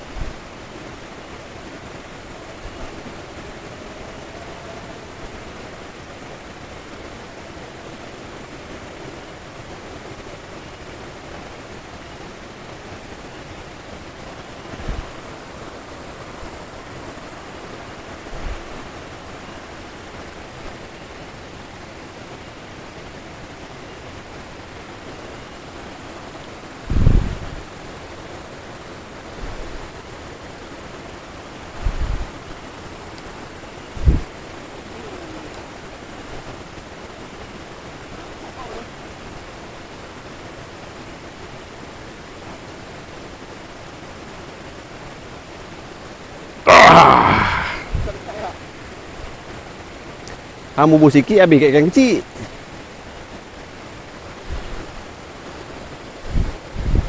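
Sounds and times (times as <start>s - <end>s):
water rushing over rapids: 0.0s - 57.0s.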